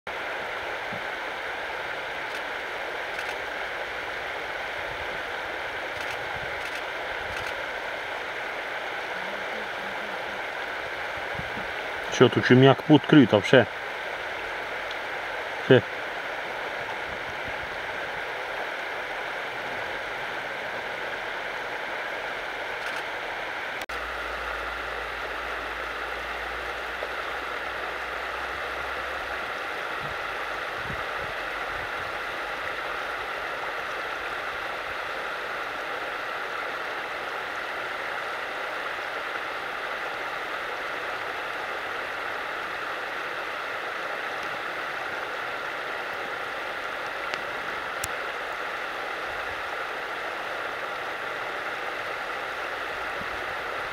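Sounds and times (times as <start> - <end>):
stream rushing: 0.1 - 53.9.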